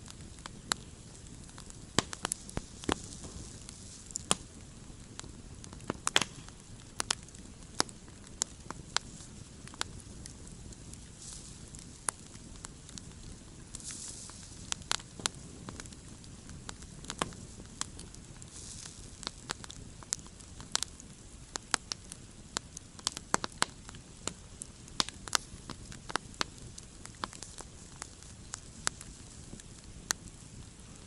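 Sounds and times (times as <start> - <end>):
campfire crackling and popping: 0.0 - 31.0
low rumble of flames: 0.0 - 31.0.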